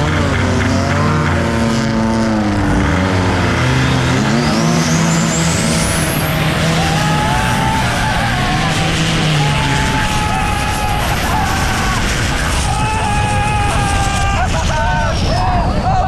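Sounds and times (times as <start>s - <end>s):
boat diesel engine running hard: 0.0s - 16.0s
high whine rising in pitch: 0.2s - 15.8s.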